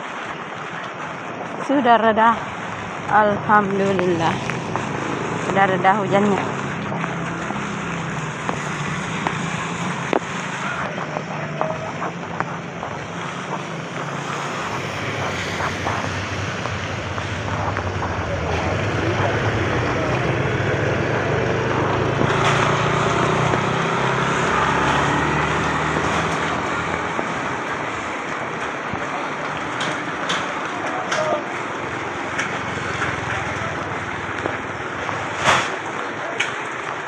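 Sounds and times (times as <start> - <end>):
traffic on wet road: 0.0 - 37.0
vehicle passing close: 2.4 - 36.4.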